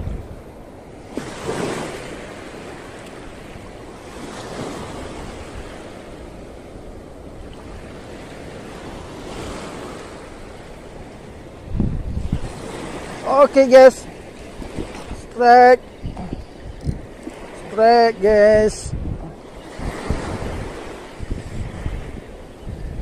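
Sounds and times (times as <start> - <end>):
small waves breaking on beach: 0.0 - 23.0
wind on microphone: 0.0 - 23.0.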